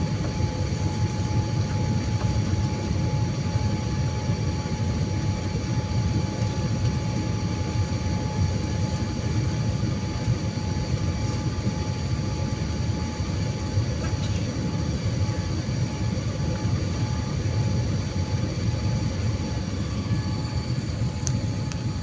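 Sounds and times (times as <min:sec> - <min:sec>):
jet cabin rumble: 0:00.0 - 0:22.0
steady whine: 0:00.0 - 0:22.0.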